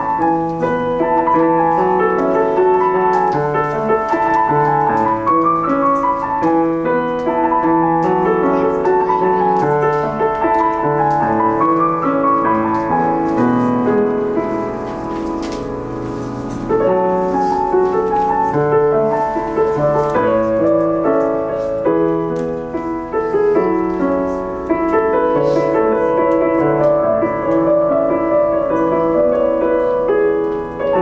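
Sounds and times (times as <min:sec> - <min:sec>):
piano recital piece: 0:00.0 - 0:31.0.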